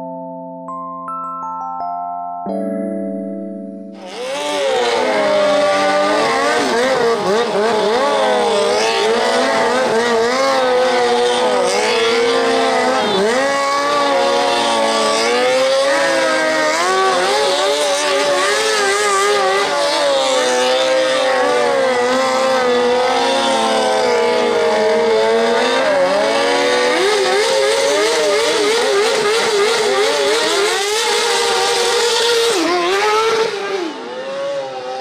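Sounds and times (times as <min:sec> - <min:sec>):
motorcycle engines revving high: 0:03.8 - 0:35.0.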